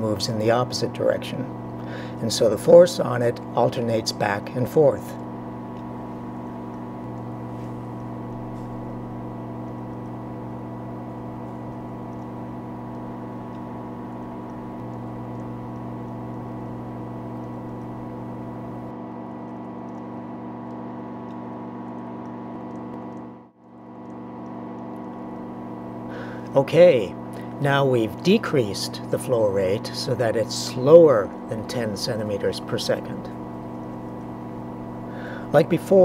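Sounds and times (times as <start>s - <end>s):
water pump electric hum: 0.0s - 36.0s.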